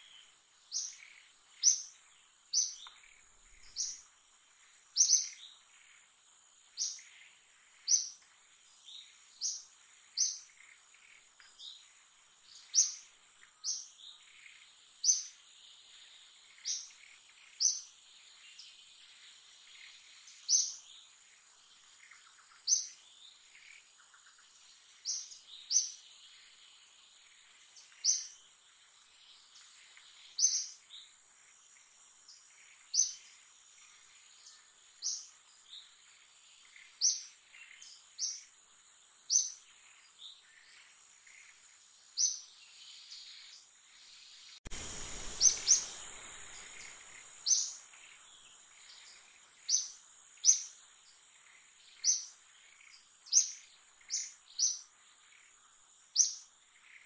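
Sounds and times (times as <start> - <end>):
bird chirping: 0.0 - 6.1, 6.7 - 57.0
insect drone: 0.0 - 57.0.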